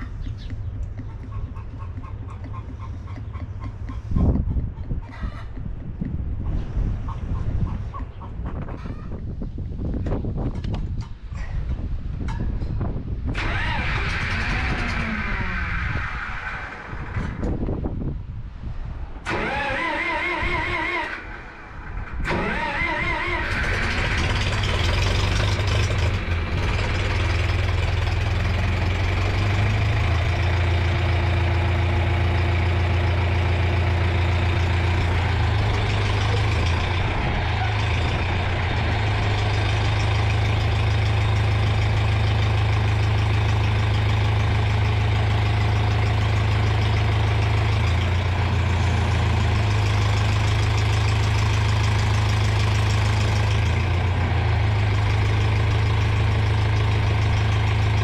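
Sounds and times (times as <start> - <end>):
tractor engine idling: 0.0 - 8.4, 12.8 - 17.8, 19.2 - 58.0.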